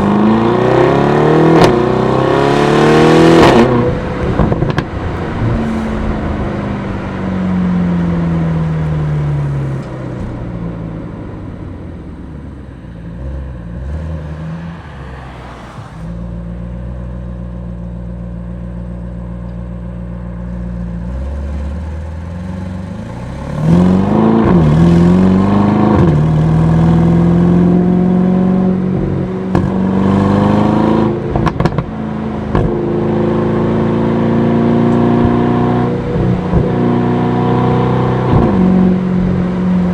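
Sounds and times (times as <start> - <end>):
car engine accelerating: 0.0 - 19.9, 20.6 - 39.9.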